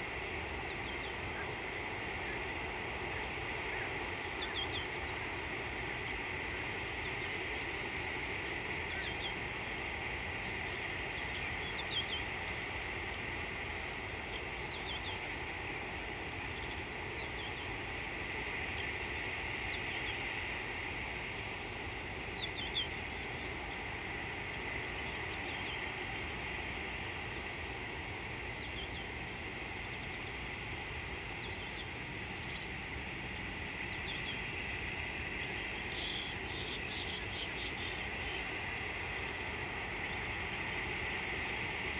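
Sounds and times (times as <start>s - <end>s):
insect chorus drone: 0.0s - 41.9s
low background hiss: 0.0s - 41.9s.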